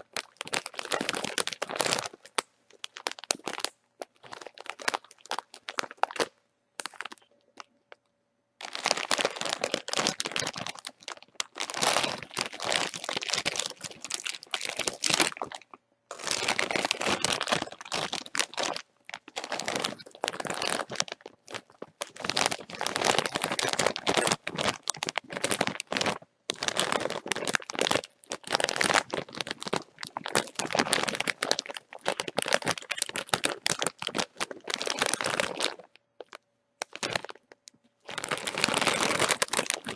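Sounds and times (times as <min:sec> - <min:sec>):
chip bag crinkling: 0:00.0 - 0:07.7, 0:08.6 - 0:39.9.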